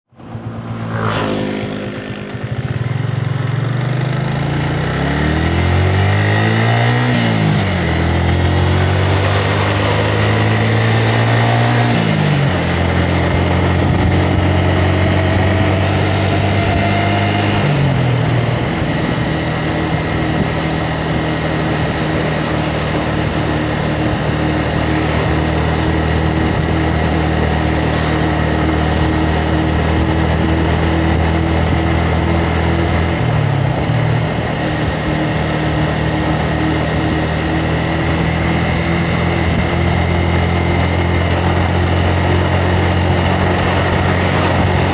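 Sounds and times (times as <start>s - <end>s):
motorcycle engine accelerating: 0.1s - 44.9s.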